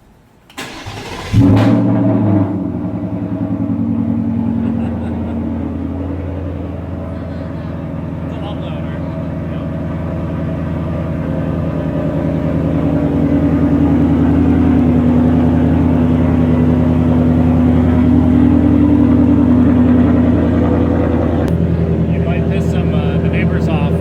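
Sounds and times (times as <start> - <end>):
deep engine exhaust note: 0.7 - 24.0.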